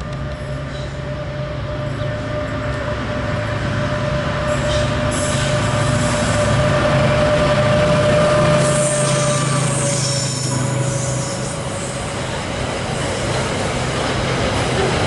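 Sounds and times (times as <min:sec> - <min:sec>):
diesel train engine rumble: 0:00.0 - 0:15.0
rail noise: 0:00.0 - 0:15.0.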